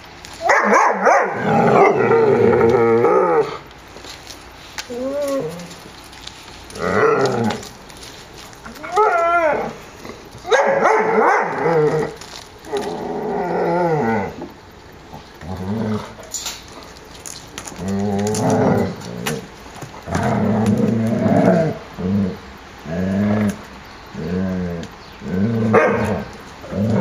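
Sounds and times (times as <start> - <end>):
puppies growling: 0.7 - 27.0.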